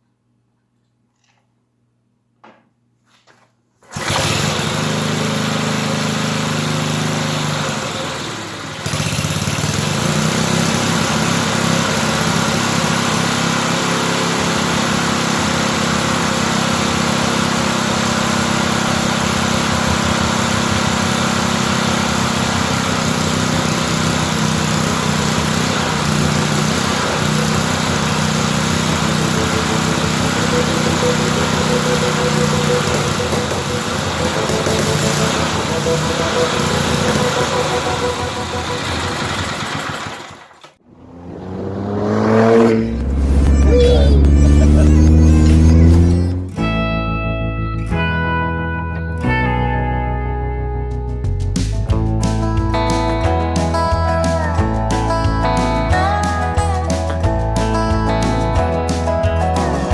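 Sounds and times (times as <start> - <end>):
riding mower engine running: 3.8 - 48.5, 49.5 - 59.9.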